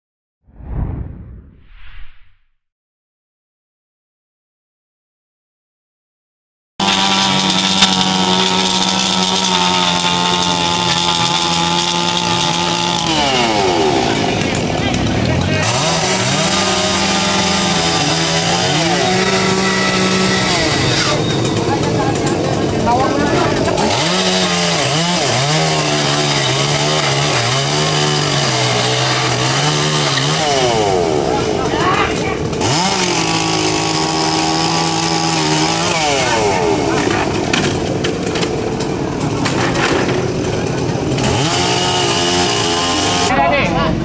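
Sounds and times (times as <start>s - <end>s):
chainsaw engine running: 6.8s - 43.4s.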